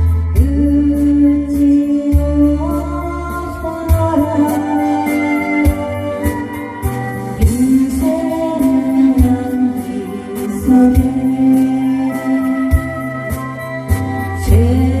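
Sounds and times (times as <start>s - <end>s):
steady drum beat: 2.1s - 15.0s.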